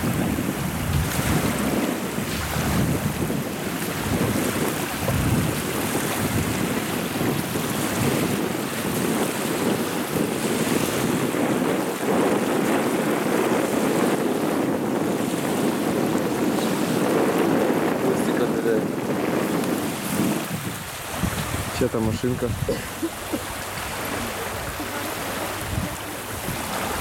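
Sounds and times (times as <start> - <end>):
small waves lapping on shore: 0.0 - 27.0
wind on microphone: 0.0 - 27.0.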